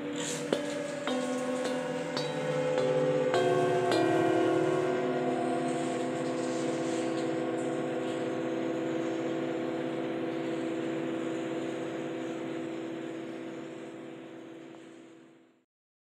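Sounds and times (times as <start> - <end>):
singing bowls ringing: 0.0 - 15.3.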